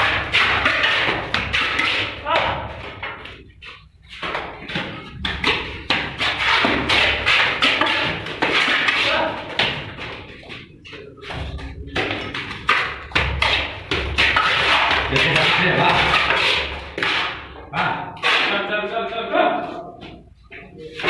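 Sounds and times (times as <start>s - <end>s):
irregular knocks and taps: 0.0s - 18.7s.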